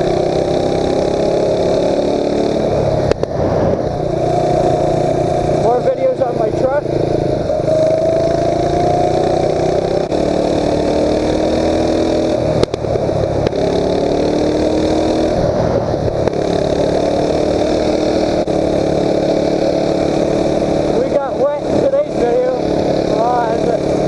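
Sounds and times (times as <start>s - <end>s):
mini bike engine revving: 0.0s - 24.0s.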